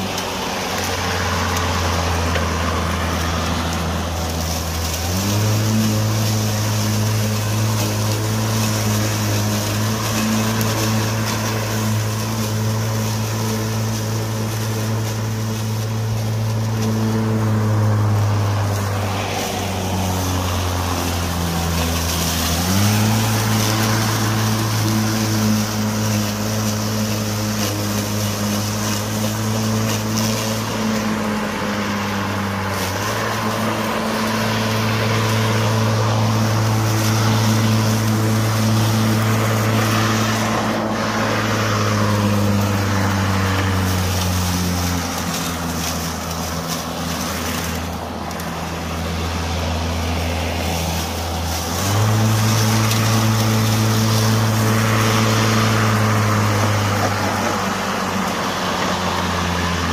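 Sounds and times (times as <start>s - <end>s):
electric lawn mower running: 0.0s - 59.9s.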